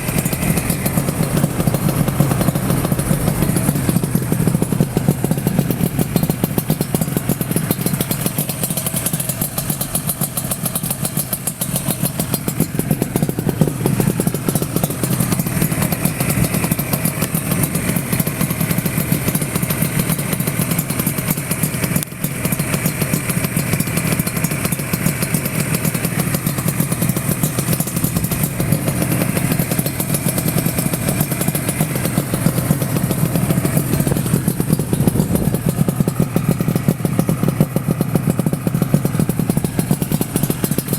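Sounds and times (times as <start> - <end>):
two-stroke motorcycle idling: 0.0 - 40.9.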